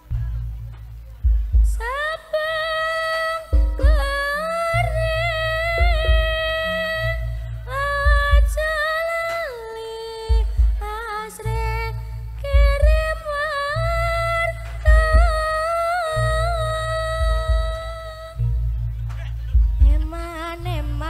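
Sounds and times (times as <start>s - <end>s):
heavy bass drum beats: 0.0s - 2.2s, 3.4s - 9.6s, 10.2s - 21.0s.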